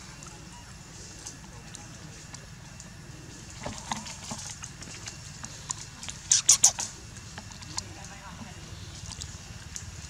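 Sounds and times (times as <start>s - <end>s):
light ticks and rustles: 1.0s - 10.0s.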